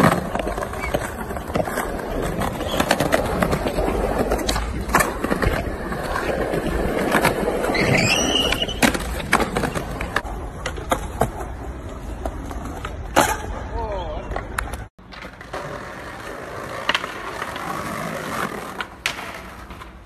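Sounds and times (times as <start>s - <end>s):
skateboard clacks: 0.0s - 13.5s, 14.2s - 20.0s
skateboard wheels rolling on concrete: 0.0s - 20.0s.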